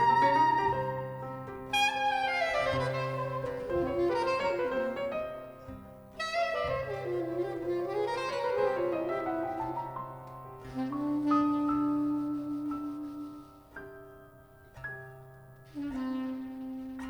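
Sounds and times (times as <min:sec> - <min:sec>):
soprano saxophone jazz line: 0:00.0 - 0:14.0, 0:15.6 - 0:17.0
piano accompaniment: 0:00.0 - 0:17.0.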